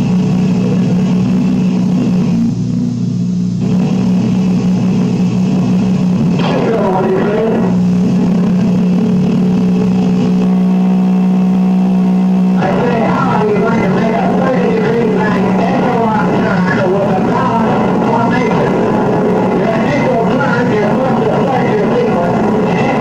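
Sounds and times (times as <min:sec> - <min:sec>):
aircraft engine drone over radio: 0:00.0 - 0:23.0.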